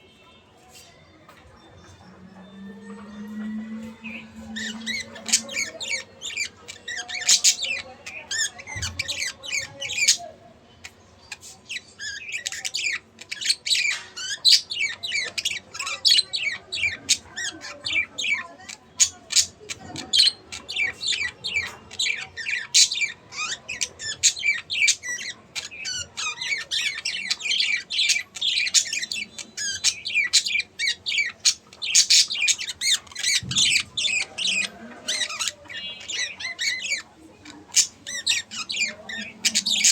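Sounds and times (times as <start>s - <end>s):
budgerigars chattering and chirping: 1.5s - 39.9s.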